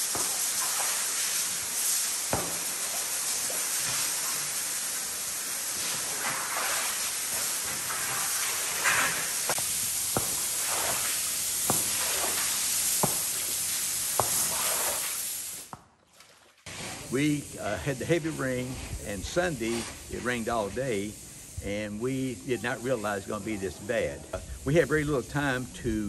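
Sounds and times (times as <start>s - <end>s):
steady hiss: 0.0s - 15.7s, 16.7s - 26.0s
squeegee swishing water on tile: 0.0s - 21.0s.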